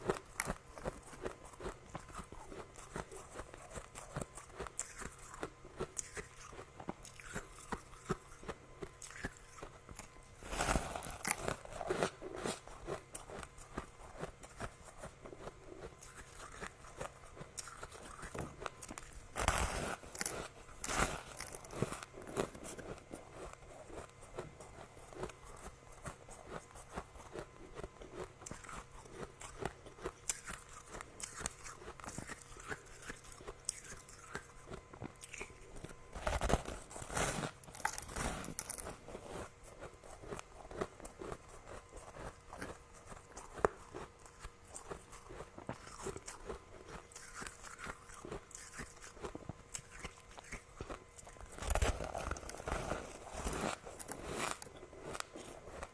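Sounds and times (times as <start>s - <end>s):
frost being chewed crunching: 0.0s - 55.9s.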